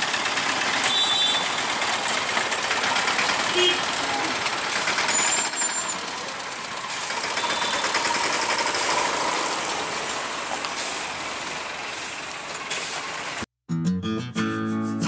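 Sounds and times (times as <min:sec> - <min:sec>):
hiss of engine and tyre noise: 0:00.0 - 0:13.5
truck engine driving past: 0:00.0 - 0:13.5.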